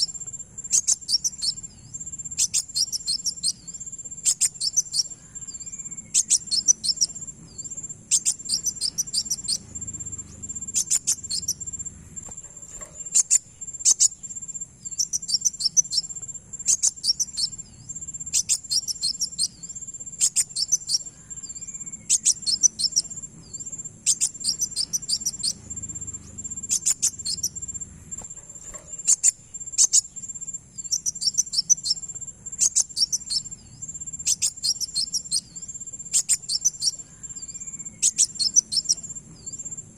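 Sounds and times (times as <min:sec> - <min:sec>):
bird rapid high chirping: 0:00.0 - 0:39.9
steady high-pitched whine: 0:00.0 - 0:39.9.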